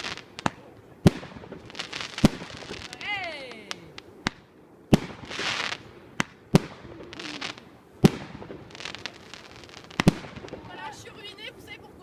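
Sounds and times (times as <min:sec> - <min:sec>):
fireworks bangs: 0:00.0 - 0:11.3
fireworks crackling: 0:00.0 - 0:12.0.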